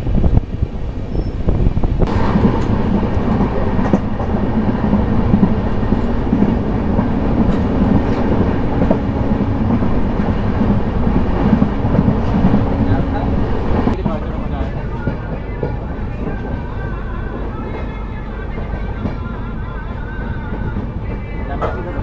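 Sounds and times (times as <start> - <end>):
rumble of train wheels on rail: 0.0 - 22.0.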